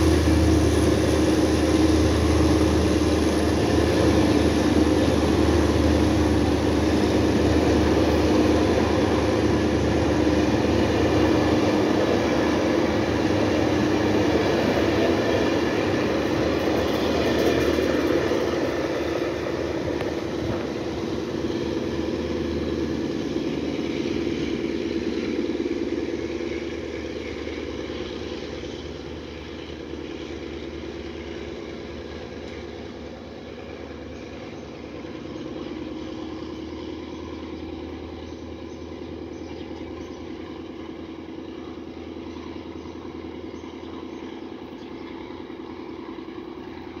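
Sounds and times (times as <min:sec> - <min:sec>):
locomotive engine drone: 0:00.0 - 0:47.0.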